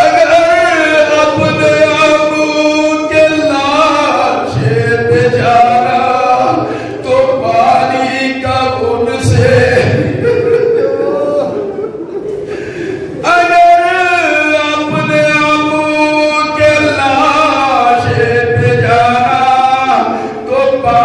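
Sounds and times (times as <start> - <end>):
man chanting a lament: 0.0 - 11.9, 13.0 - 21.0.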